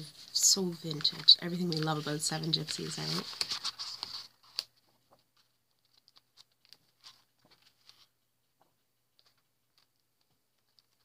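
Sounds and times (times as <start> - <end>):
paper sheets rustling: 0.0 - 11.0.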